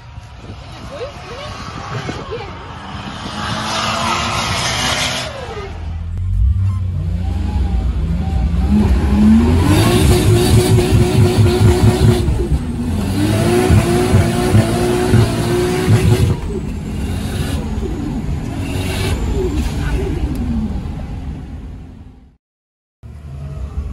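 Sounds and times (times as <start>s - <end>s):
car engine at full throttle: 0.0s - 22.4s.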